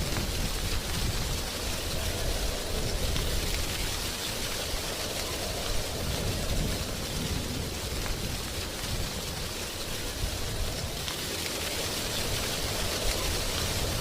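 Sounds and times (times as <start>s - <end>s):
wind rustling tree leaves: 0.0s - 14.0s.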